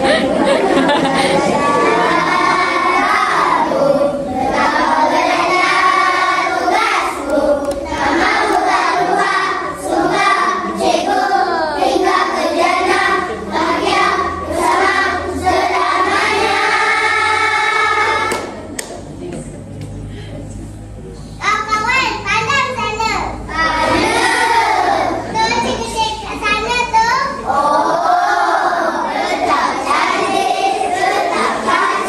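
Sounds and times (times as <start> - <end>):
children's choir singing: 0.0 - 18.7, 23.4 - 26.0, 27.2 - 32.0.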